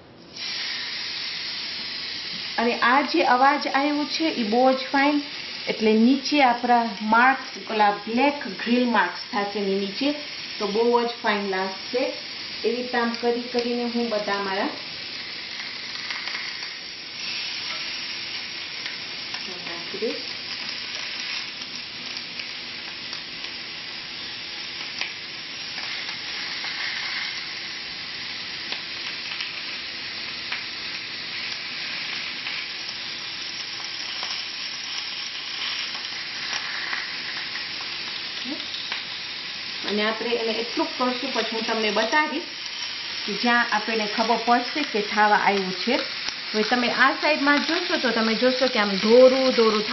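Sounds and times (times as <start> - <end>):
chicken sizzling on a grill: 0.0 - 49.9.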